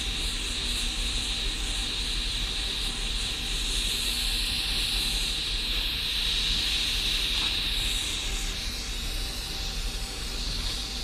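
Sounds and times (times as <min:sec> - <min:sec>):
blowtorch flame hissing: 0:00.0 - 0:11.0.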